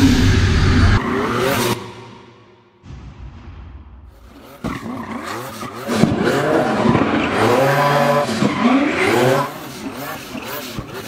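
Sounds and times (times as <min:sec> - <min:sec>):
car engine revving: 0:00.0 - 0:03.0, 0:03.7 - 0:11.0.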